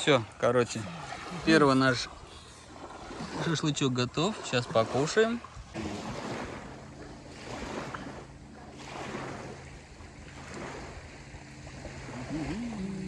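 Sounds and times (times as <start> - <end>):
small waves lapping on shore: 0.0 - 13.0
wind: 0.0 - 13.0.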